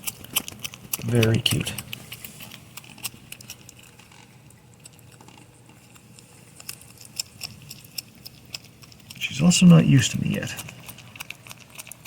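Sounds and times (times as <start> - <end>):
porcupine chewing food: 0.0 - 12.0.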